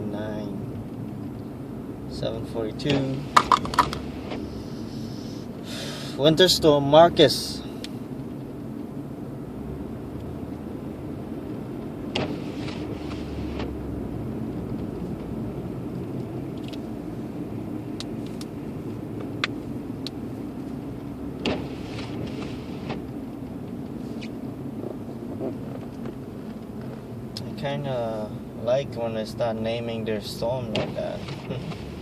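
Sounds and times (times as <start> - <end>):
engine and tyre hum: 0.0 - 32.0.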